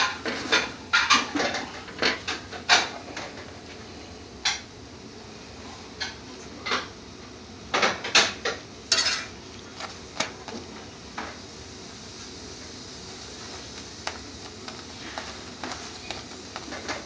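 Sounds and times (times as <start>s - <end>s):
faint frying hiss: 0.0s - 17.0s.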